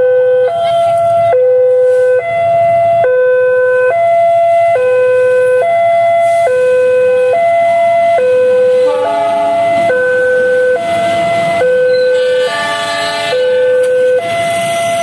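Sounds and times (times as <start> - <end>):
two-tone crossing warning siren: 0.0 - 15.0.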